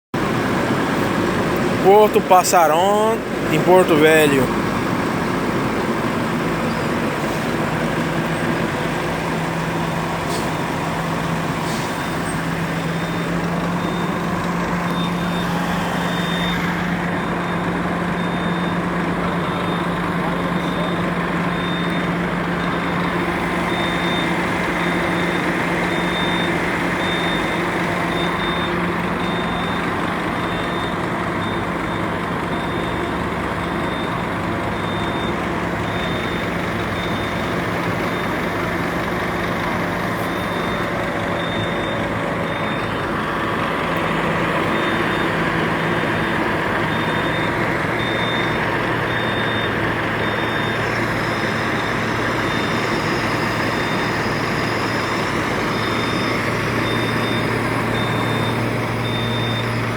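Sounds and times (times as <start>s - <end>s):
heavy diesel engine running: 0.2s - 59.9s
reversing alarm beeping: 0.8s - 59.9s.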